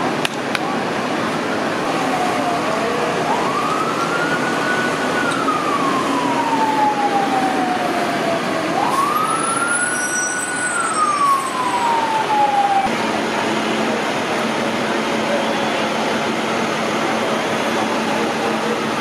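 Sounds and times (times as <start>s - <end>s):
street noise: 0.0s - 19.0s
fire truck siren wailing: 0.8s - 19.0s.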